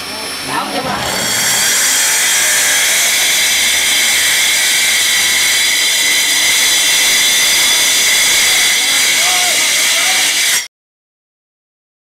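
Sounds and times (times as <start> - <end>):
wall chaser whining: 0.5 - 10.3.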